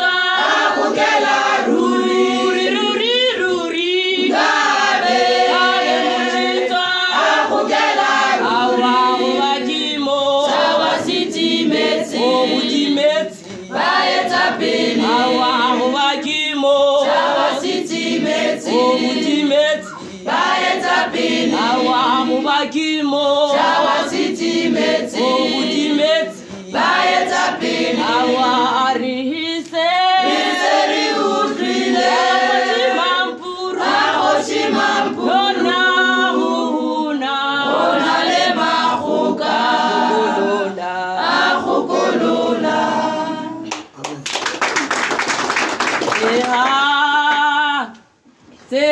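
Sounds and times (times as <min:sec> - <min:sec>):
female choir singing a cappella: 0:00.0 - 0:43.7.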